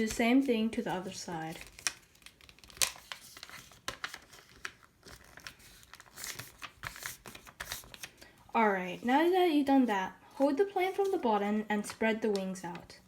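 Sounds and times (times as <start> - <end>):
paper rustling and crinkling: 0.0 - 8.4, 10.3 - 13.0.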